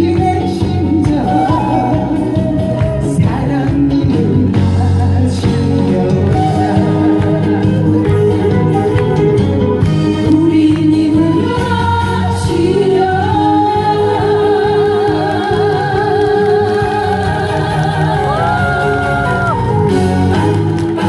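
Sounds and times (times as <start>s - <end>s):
backing track music: 0.0s - 21.0s
person singing: 0.0s - 21.0s.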